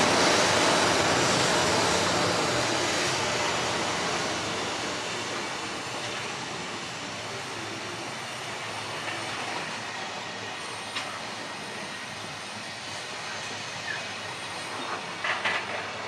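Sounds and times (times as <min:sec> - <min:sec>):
freight wagon wheels on rails: 0:00.0 - 0:16.0.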